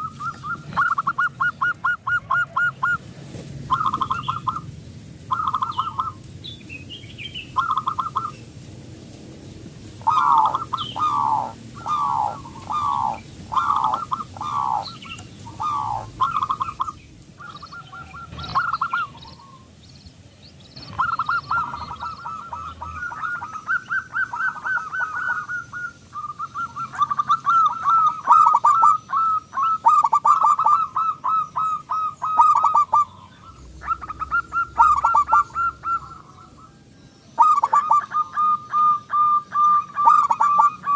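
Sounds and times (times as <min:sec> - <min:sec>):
dove cooing: 0:00.0 - 0:04.7, 0:05.3 - 0:06.3, 0:07.4 - 0:08.4, 0:10.0 - 0:19.7, 0:20.8 - 0:40.9.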